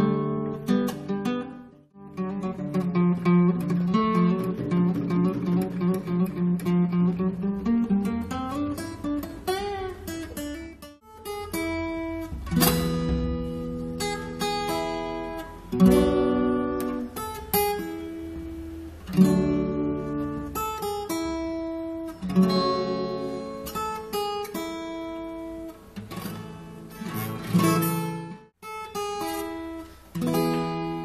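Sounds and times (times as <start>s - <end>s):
acoustic guitar strumming and plucking: 0.0s - 31.0s.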